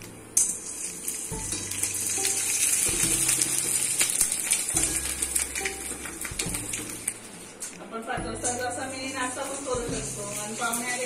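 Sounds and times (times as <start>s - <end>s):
hot oil sizzling and crackling: 0.0s - 11.0s
ukulele background music: 0.0s - 11.0s.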